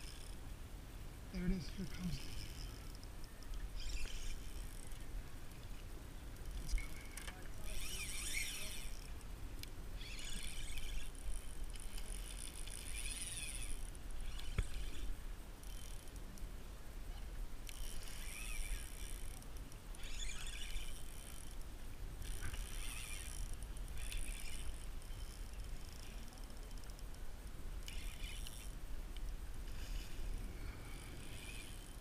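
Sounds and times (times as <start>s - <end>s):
fishing reel whirring: 0.0s - 0.4s, 1.4s - 5.1s, 6.4s - 9.3s, 10.0s - 16.3s, 17.6s - 27.2s, 27.8s - 28.8s, 29.7s - 32.0s.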